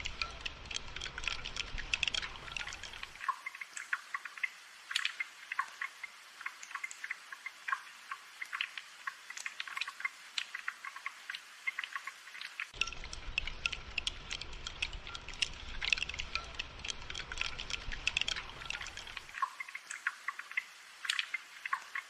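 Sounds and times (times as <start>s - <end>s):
gentle rain patter: 0.0s - 22.0s.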